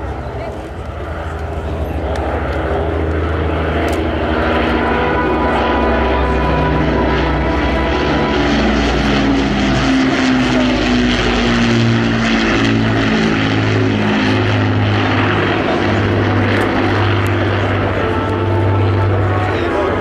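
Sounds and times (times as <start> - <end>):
propeller aircraft engines droning: 0.0 - 20.0.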